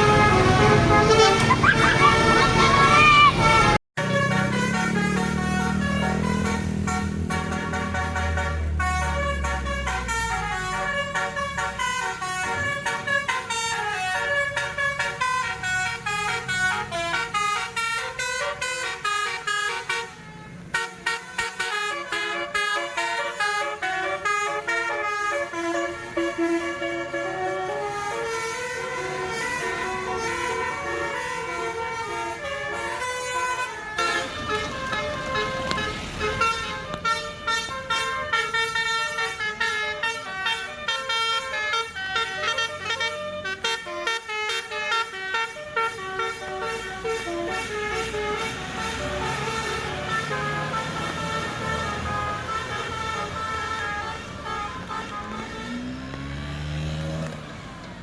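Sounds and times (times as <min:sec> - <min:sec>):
bus engine revving: 0:00.0 - 0:58.0
multi-tone bus horn melody: 0:00.0 - 0:58.0.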